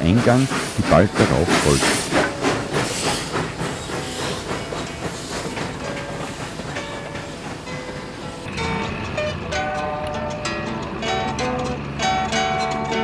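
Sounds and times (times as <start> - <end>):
train rhythmic clatter: 0.0 - 13.0.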